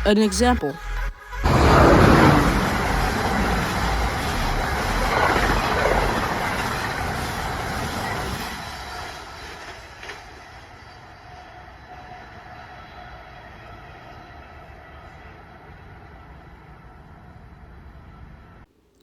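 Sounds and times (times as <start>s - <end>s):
train rumbling along tracks: 1.4s - 18.6s.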